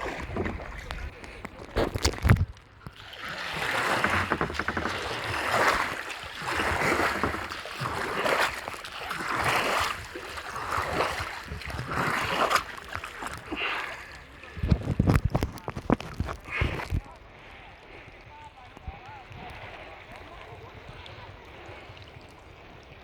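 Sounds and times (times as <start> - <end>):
kayak paddle splashing: 0.0 - 23.0.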